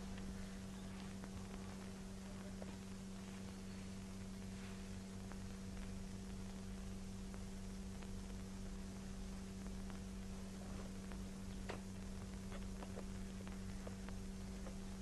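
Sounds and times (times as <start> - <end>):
faint hiss: 0.0 - 15.0
faint ticks: 0.0 - 15.0
low electrical hum: 0.0 - 15.0.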